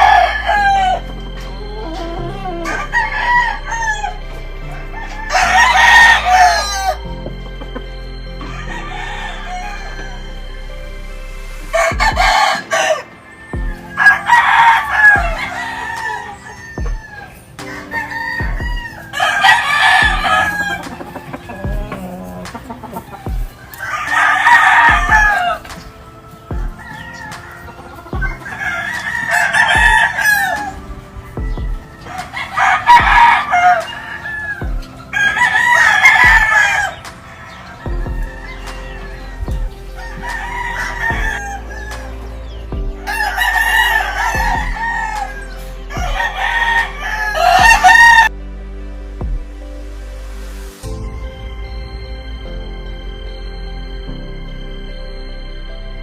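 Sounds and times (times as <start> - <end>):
chickens clucking: 0.0 - 48.3
rooster crowing: 0.0 - 48.4.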